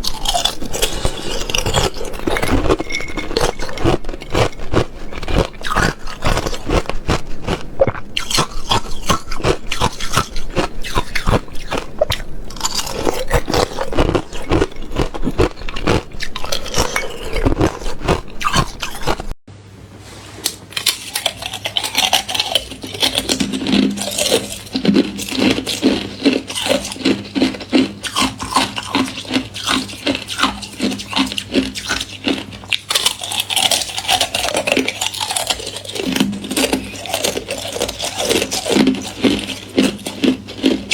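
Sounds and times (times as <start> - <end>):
ice being chewed: 0.0 - 19.4, 20.7 - 40.9.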